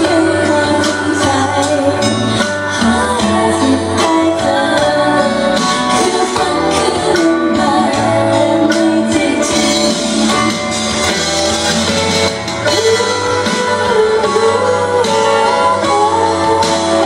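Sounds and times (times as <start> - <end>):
woman singing into a microphone: 0.0 - 11.2, 12.6 - 17.0
pop music with guitar: 0.0 - 17.0.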